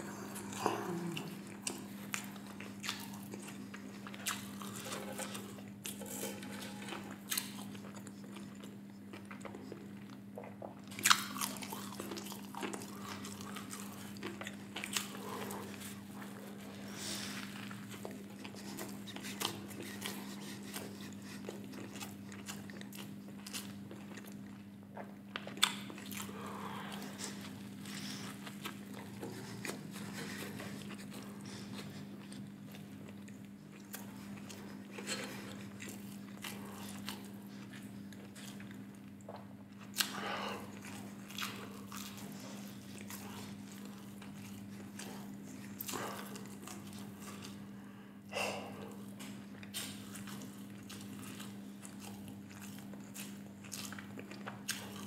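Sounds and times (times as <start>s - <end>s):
biting and chewing: 0.0s - 47.8s, 48.5s - 55.0s
steady low hum: 0.0s - 55.0s.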